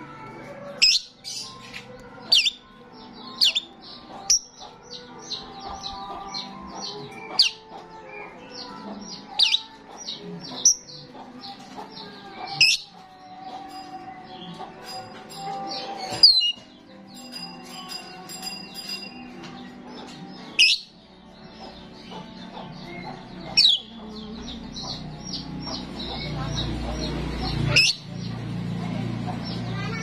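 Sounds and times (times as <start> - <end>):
starling chattering: 0.7 - 30.0.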